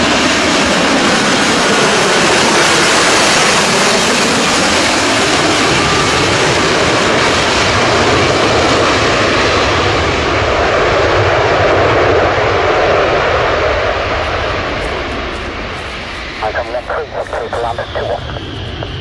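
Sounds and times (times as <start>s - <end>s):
jet engine roar while hovering: 0.0s - 19.0s.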